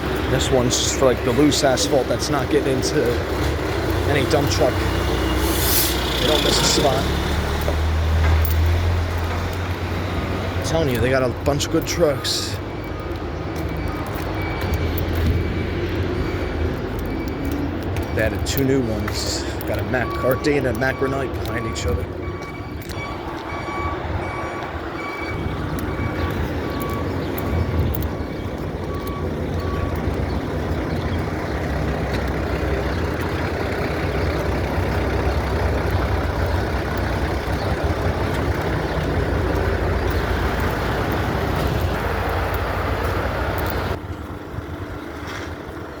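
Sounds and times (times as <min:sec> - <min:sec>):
heavy diesel machinery rumbling: 0:00.0 - 0:46.0
reversing alarm beeping: 0:03.9 - 0:41.9.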